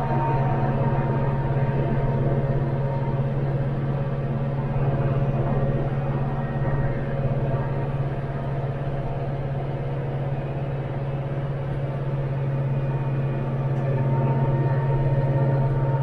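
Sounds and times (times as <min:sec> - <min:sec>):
tractor diesel engine droning: 0:00.0 - 0:16.0.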